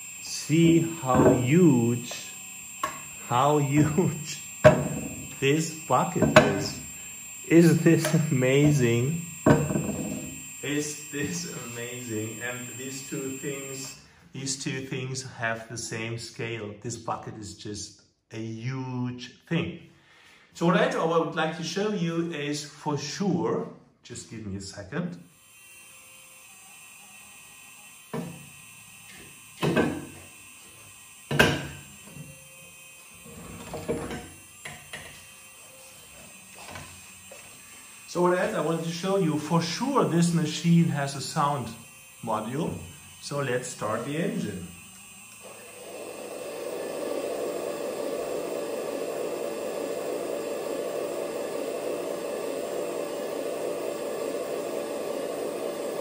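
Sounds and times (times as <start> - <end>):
toy excavator hydraulic bursts: 0.0 - 14.2, 25.2 - 56.0.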